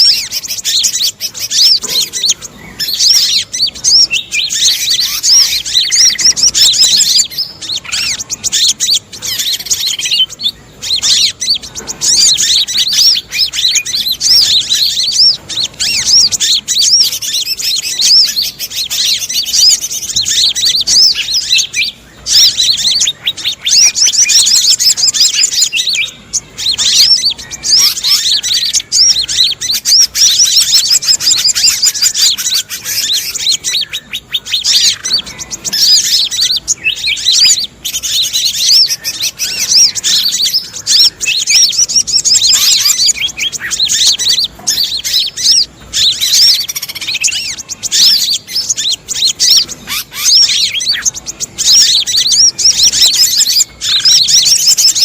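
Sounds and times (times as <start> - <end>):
bird calls: 0.0 - 55.0
small birds chirping: 0.0 - 55.0.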